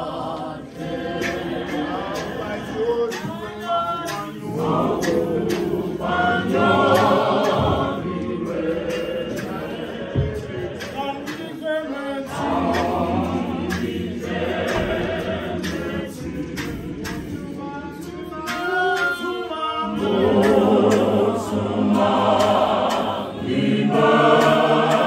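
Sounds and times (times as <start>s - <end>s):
congregation singing a hymn: 0.0s - 25.0s
sharp percussive beats: 0.0s - 25.0s.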